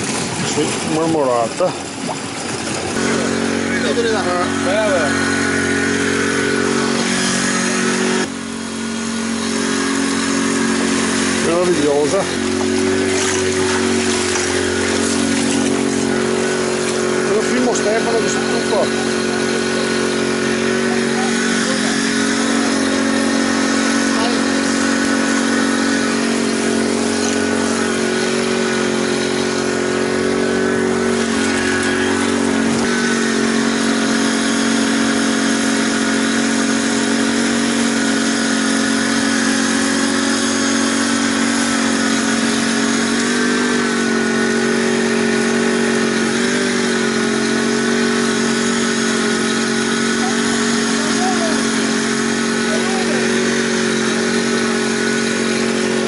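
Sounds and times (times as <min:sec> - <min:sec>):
small engine droning: 0:00.0 - 0:56.0.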